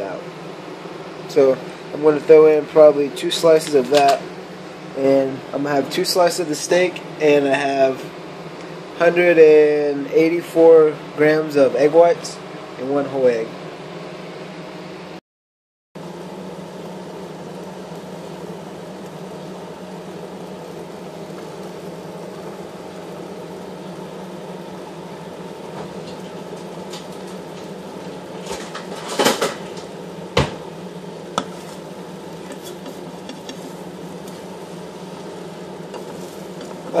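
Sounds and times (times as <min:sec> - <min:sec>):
kitchen hum: 0:00.0 - 0:15.1, 0:16.0 - 0:37.0.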